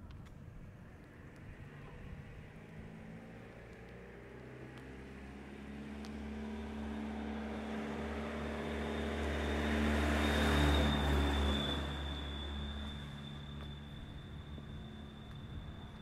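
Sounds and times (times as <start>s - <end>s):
car passing by: 1.0s - 16.0s.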